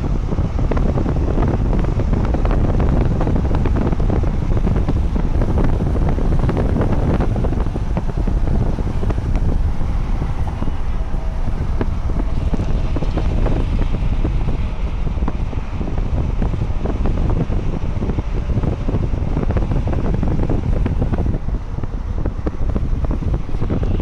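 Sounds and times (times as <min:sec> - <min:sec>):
freight train rumble: 0:00.0 - 0:24.0
wind buffeting microphone: 0:00.0 - 0:24.0.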